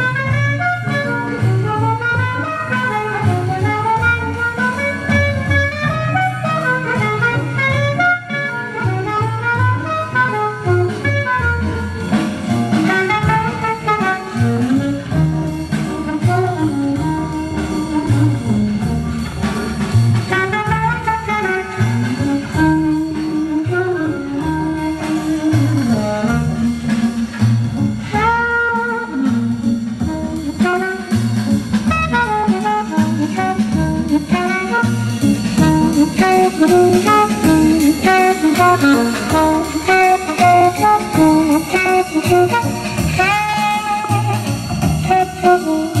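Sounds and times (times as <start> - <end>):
horn-led music with bass beat: 0.0 - 46.0.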